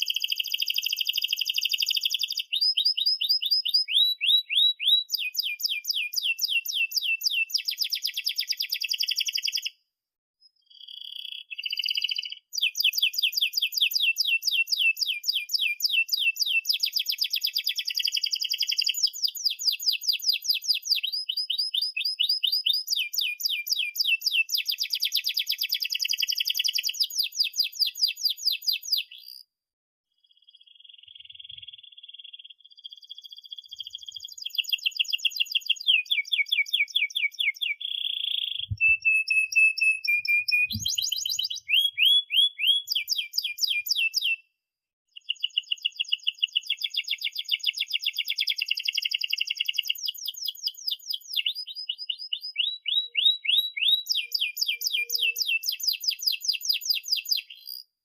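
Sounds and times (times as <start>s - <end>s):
canary singing trills: 0.0s - 9.8s, 10.4s - 29.5s, 30.2s - 44.4s, 45.1s - 57.9s.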